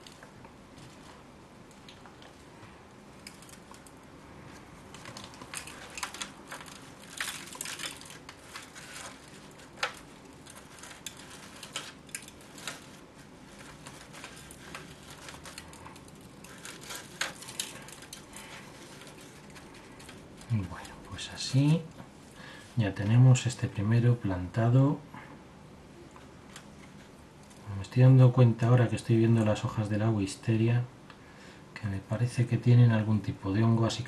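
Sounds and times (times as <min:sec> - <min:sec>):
soft rustling of soil: 0:00.0 - 0:34.0.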